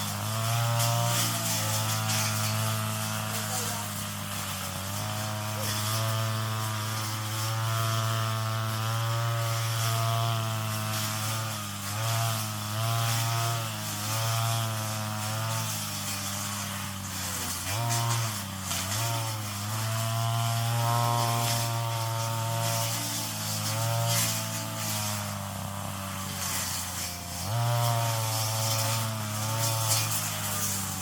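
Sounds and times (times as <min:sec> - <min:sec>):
brush cutter engine buzzing: 0:00.0 - 0:31.0.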